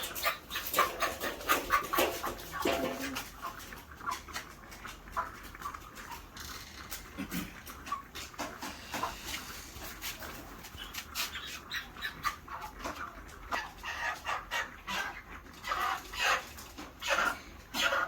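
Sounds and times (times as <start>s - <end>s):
chickens chirping and clucking: 0.0s - 18.0s.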